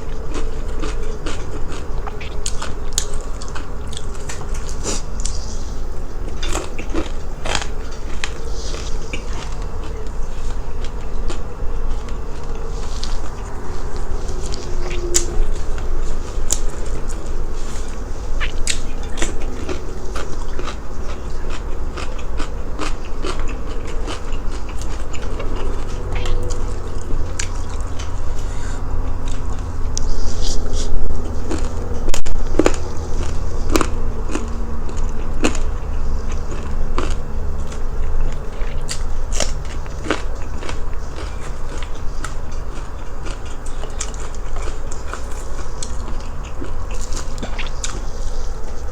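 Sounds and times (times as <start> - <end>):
crunchy chewing: 0.0 - 48.9
steady low hum: 0.0 - 48.9.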